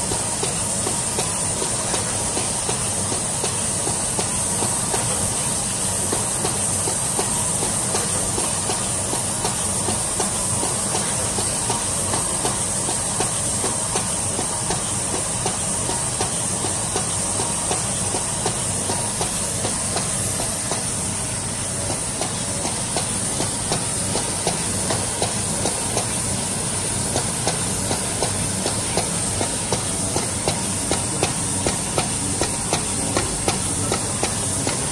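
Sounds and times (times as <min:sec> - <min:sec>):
air hiss: 0:00.0 - 0:34.9
machine mechanical hum: 0:00.0 - 0:34.9.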